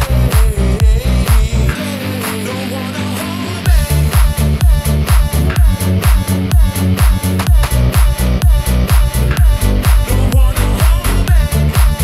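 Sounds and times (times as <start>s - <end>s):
kick drum: 0.0s - 1.6s, 3.7s - 12.0s.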